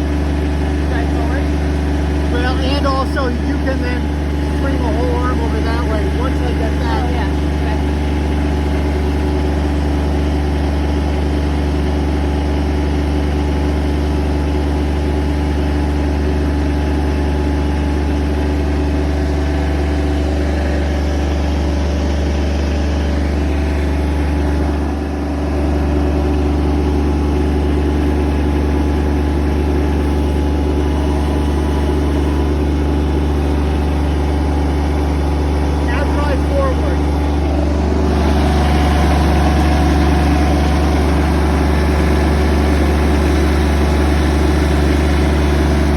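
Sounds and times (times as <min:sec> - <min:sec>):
heavy machine engine running: 0:00.0 - 0:45.9.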